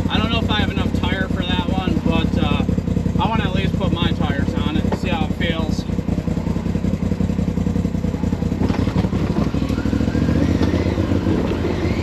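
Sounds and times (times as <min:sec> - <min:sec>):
utility vehicle engine rumbling: 0:00.0 - 0:12.0.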